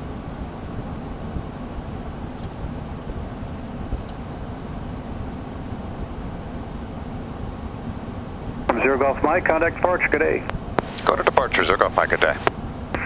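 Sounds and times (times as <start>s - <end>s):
jet cockpit engine rumble: 0.0s - 13.0s.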